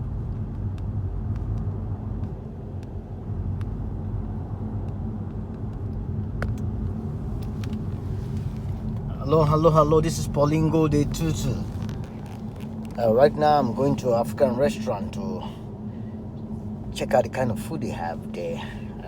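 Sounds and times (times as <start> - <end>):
car engine and road rumble: 0.0 - 19.0
faint hum: 0.0 - 19.0.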